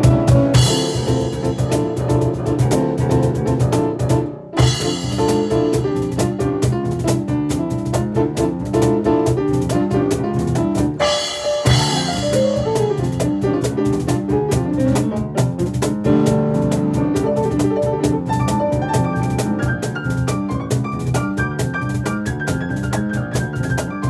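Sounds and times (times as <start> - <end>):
descending piano run: 0.0 - 24.0
driving percussion beat: 0.0 - 24.0
fast piano chords: 0.0 - 24.0.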